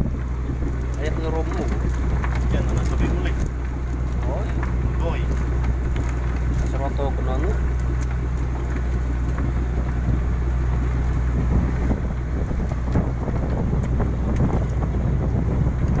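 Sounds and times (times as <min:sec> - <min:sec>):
ship machinery humming: 0:00.0 - 0:16.0.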